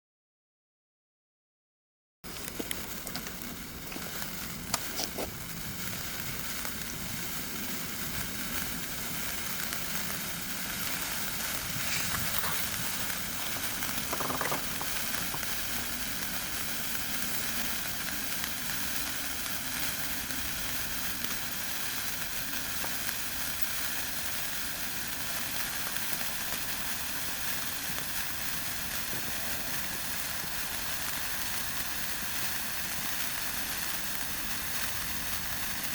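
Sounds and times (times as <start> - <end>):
sparkler hissing and crackling: 2.2 - 35.9.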